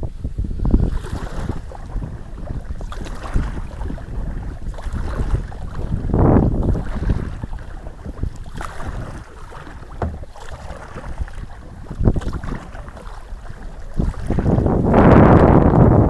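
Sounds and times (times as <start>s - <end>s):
wind rumbling on microphone: 0.0s - 16.0s
paddle strokes in water: 0.6s - 16.0s.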